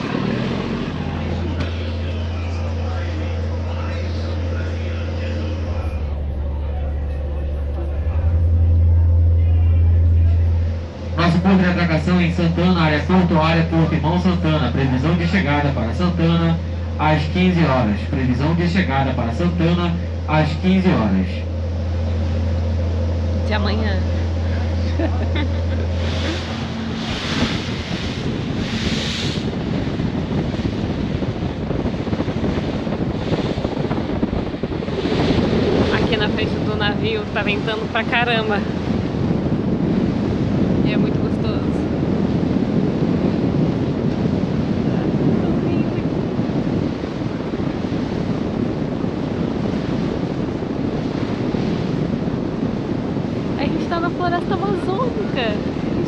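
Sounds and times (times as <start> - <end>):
water rushing: 0.0 - 56.0
wind buffeting microphone: 0.0 - 56.0.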